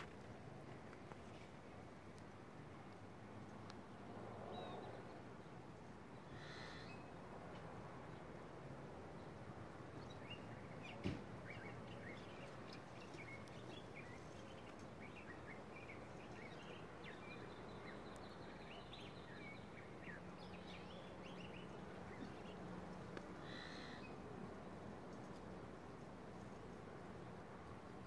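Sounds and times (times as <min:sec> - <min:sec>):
low background hiss: 0:00.0 - 0:28.0.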